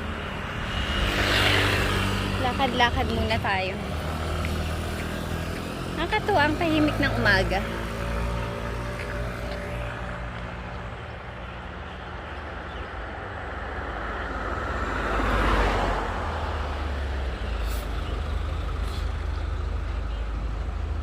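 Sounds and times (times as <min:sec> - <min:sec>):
vehicle passing: 0:00.0 - 0:19.8
low traffic rumble: 0:00.0 - 0:21.0.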